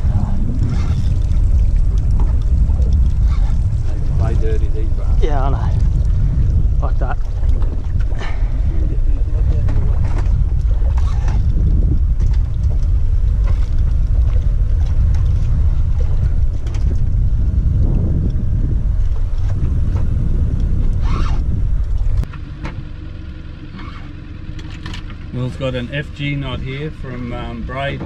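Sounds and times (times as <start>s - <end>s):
wind buffeting microphone: 0.0s - 22.3s, 24.8s - 28.0s.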